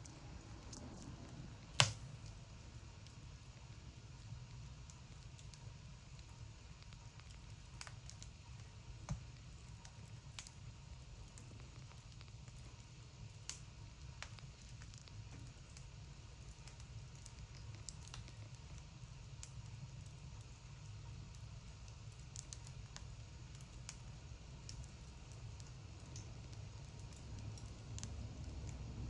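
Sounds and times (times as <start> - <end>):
low steady rumble: 0.0 - 17.8, 22.8 - 29.0
wood fire crackling: 0.0 - 29.0.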